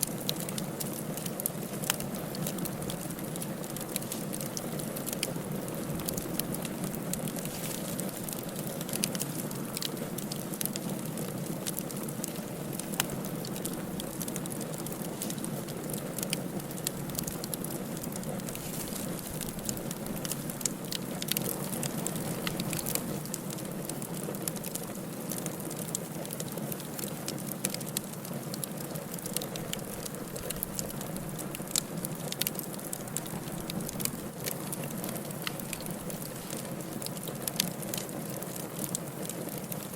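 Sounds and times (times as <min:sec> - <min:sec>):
fire hissing and rumbling: 0:00.0 - 0:39.9
firewood crackling and popping: 0:00.0 - 0:39.9.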